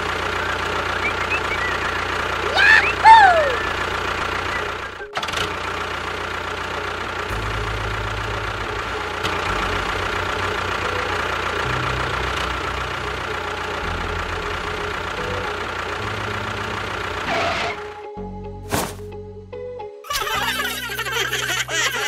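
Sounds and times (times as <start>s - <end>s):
tractor engine chugging: 0.0s - 18.0s.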